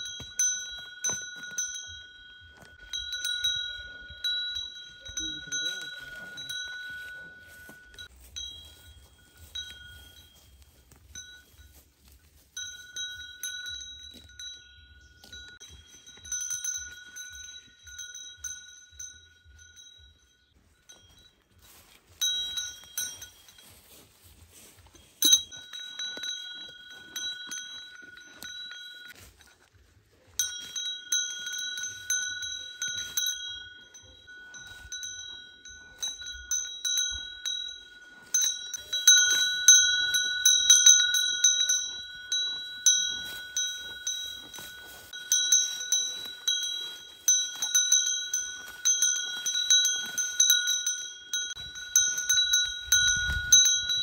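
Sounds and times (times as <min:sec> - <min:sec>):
cow bell ringing: 0:00.0 - 0:54.0.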